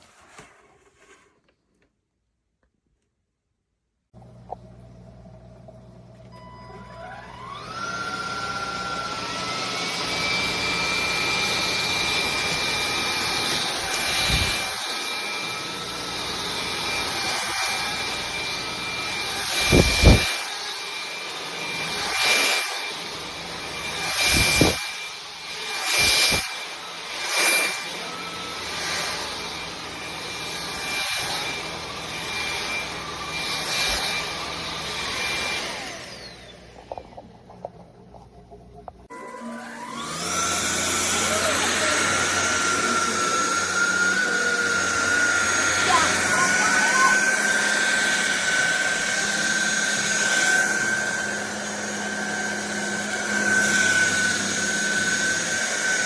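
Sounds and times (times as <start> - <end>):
stick vacuum motor whine: 4.2 - 56.0.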